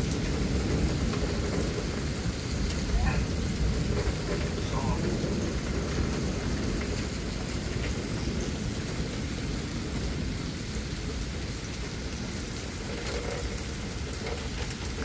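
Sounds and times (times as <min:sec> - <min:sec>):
heavy rain pouring: 0:00.0 - 0:15.0
low rumble of wind: 0:00.0 - 0:15.0.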